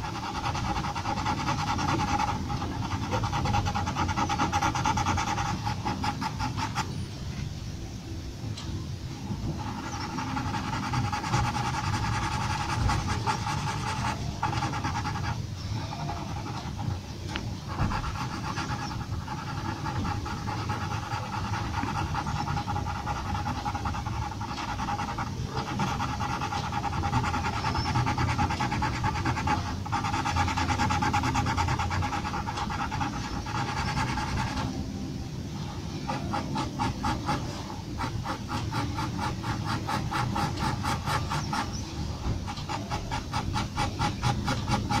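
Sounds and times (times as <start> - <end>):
pencil scratching on paper: 0.0 - 7.0, 9.4 - 35.0, 35.6 - 45.0
steady background hum: 0.0 - 45.0.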